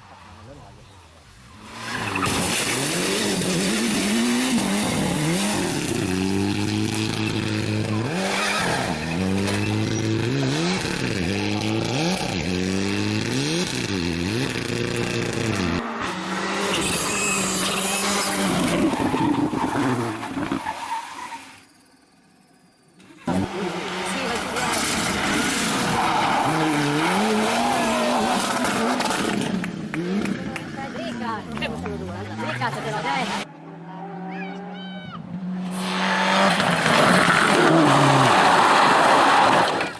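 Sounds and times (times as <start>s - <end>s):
rally car engine revving: 1.3s - 20.8s, 23.2s - 39.9s.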